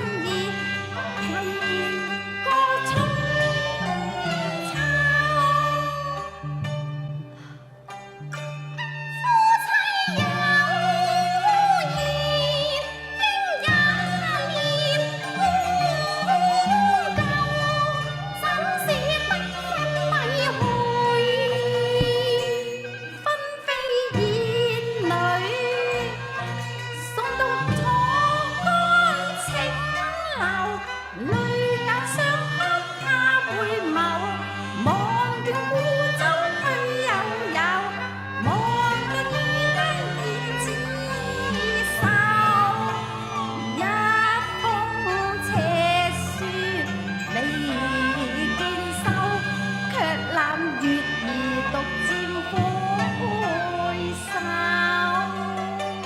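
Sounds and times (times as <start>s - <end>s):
woman singing opera with vibrato: 0.0s - 6.6s, 9.1s - 56.0s
plucked and bowed strings ensemble: 0.0s - 56.0s.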